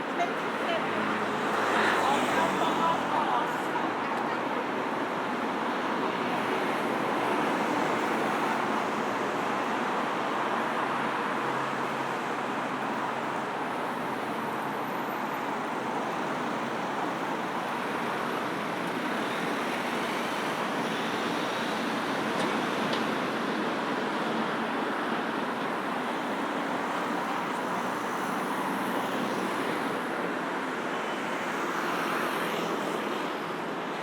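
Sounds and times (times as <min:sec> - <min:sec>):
city road traffic: 0:00.0 - 0:34.0.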